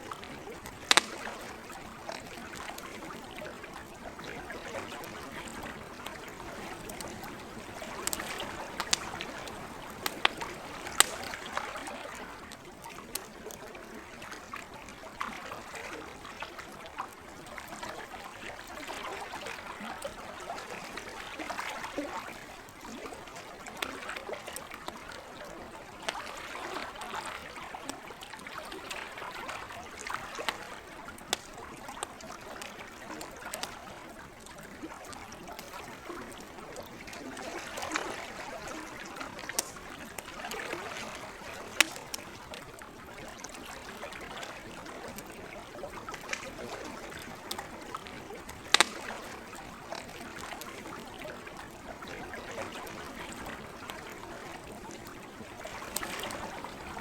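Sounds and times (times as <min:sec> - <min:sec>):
campfire crackling and popping: 0:00.0 - 0:57.0
water lapping: 0:00.0 - 0:57.0.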